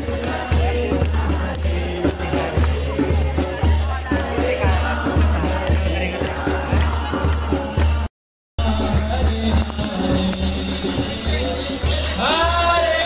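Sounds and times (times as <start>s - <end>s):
low steady drum: 0.0s - 12.6s
devotional music: 0.0s - 13.0s
jingling metal percussion: 0.0s - 13.0s.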